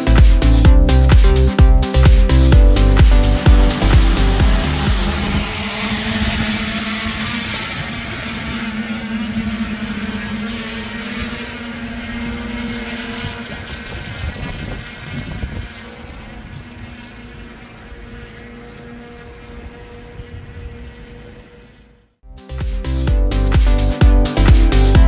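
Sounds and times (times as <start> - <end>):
drone propellers buzzing: 0.0 - 25.0.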